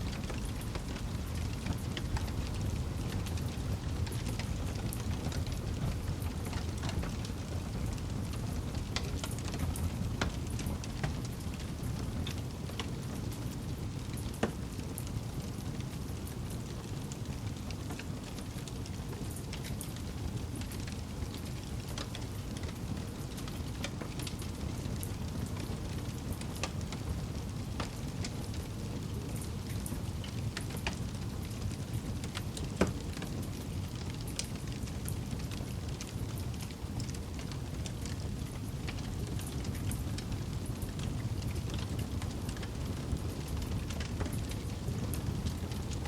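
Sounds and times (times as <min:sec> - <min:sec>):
burning wood crackling and popping: 0:00.0 - 0:46.0
rush of campfire flames: 0:00.0 - 0:46.0.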